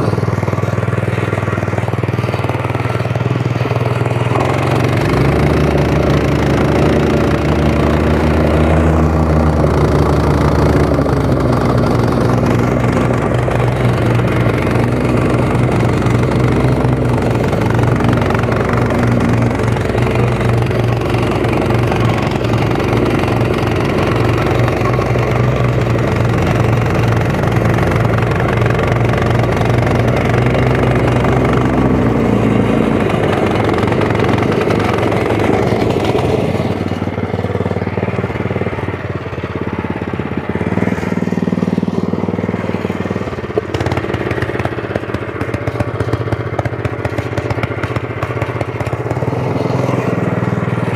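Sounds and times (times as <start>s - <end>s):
compaction machine engine running: 0.0s - 50.9s.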